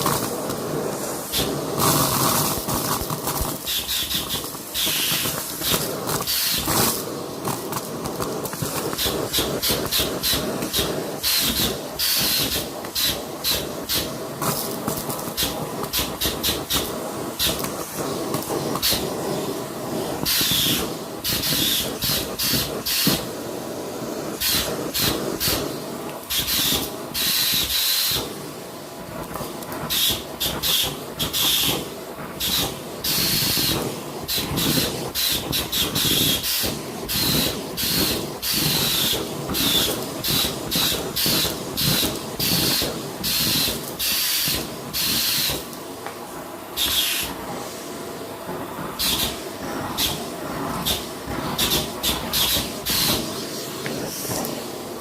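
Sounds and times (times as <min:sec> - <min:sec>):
vacuum suction hiss: 0:00.0 - 0:55.0.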